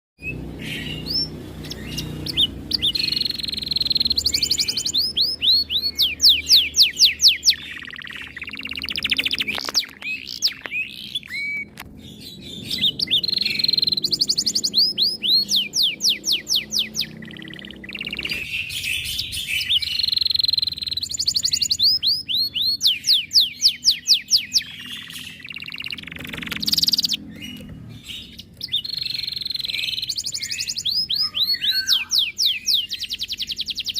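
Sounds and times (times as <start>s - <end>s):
canary singing: 0.2s - 33.9s.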